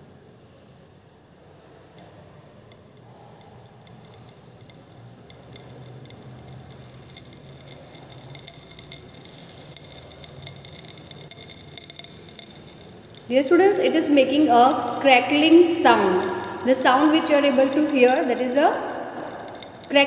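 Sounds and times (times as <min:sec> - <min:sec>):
salt crackling when heated: 0:01.8 - 0:20.0.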